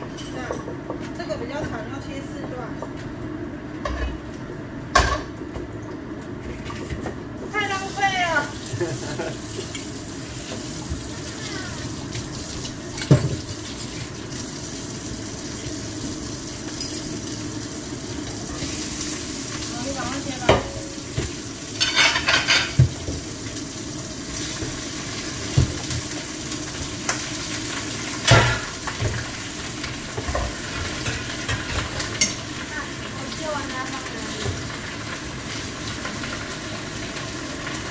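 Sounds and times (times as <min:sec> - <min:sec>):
tap water running into pot: 0:05.5 - 0:37.9.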